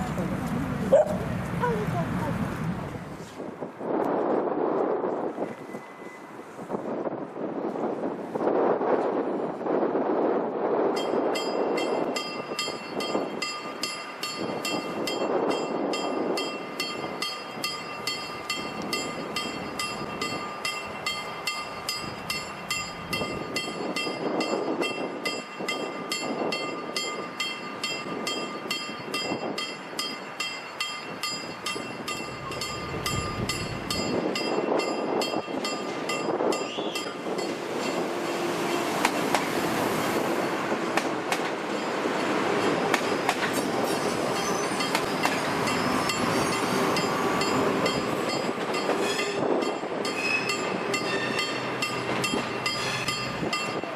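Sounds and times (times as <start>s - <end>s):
electric train running over rails: 0.0s - 53.9s.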